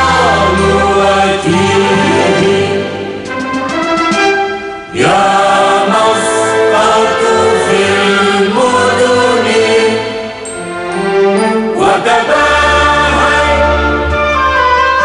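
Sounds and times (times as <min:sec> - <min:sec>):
choir singing with music: 0:00.0 - 0:15.0.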